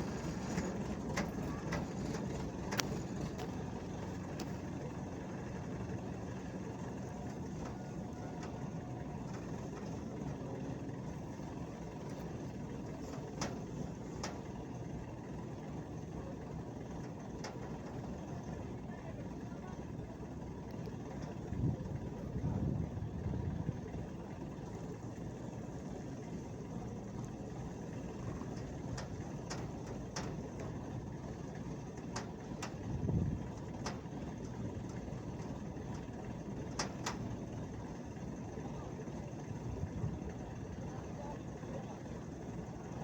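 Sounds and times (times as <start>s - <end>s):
low engine rumble: 0.0s - 43.0s.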